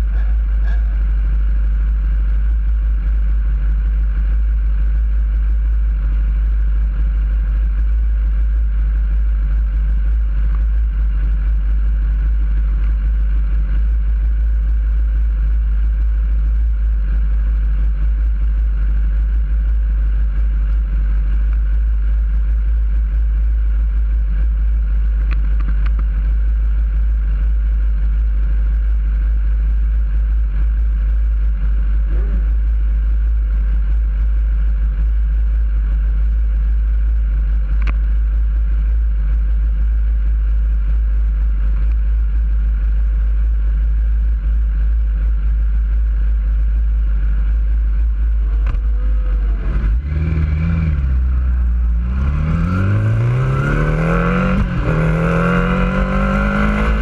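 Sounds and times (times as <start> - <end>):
motorcycle engine idling: 0.0 - 57.0
other motorcycles idling: 0.0 - 57.0.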